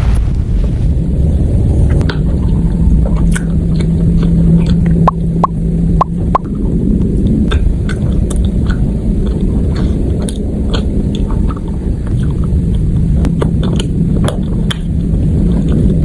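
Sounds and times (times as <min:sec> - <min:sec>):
steady low hum: 0:00.0 - 0:16.0
person chewing crunchy food: 0:02.0 - 0:16.0.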